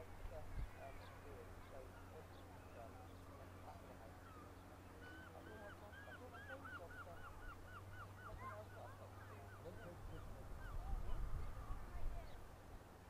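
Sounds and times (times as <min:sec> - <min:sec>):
low steady hum: 0:00.0 - 0:13.0
gull calling: 0:00.4 - 0:12.3.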